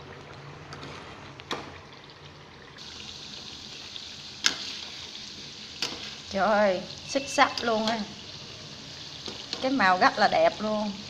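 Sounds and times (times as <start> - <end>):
food sizzling in oil: 1.8 - 11.0.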